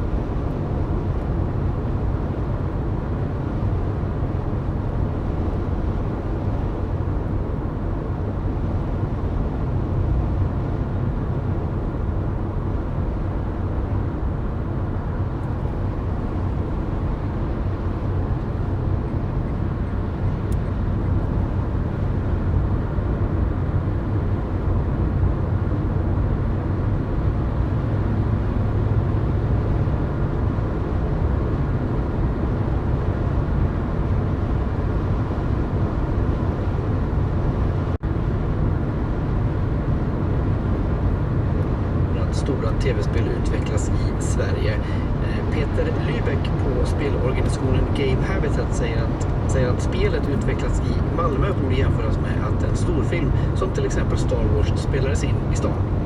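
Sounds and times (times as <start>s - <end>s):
car road noise drone: 0.0s - 56.0s.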